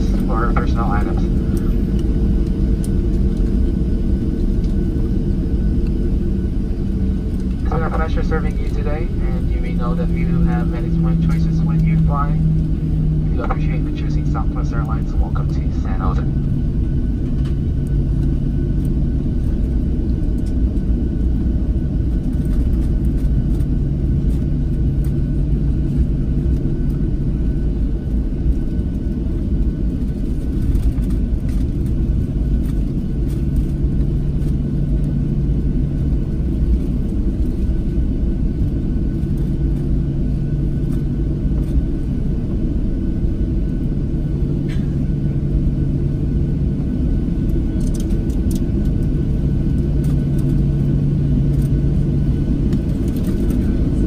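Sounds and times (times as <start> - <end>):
airplane cabin rumble: 0.0 - 54.0
low hum: 0.0 - 54.0.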